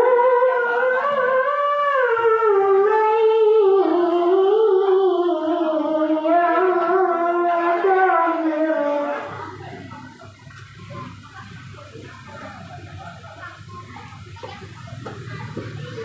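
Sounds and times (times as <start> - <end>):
boy reciting melodically: 0.0 - 16.0.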